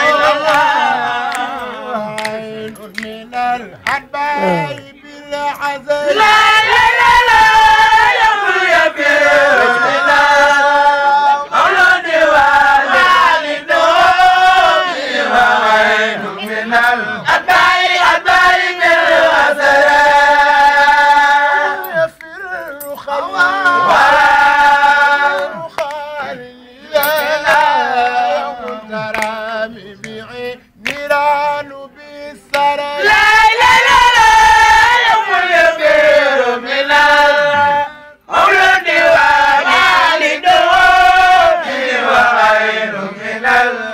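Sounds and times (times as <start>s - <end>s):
men chanting: 0.0s - 43.9s.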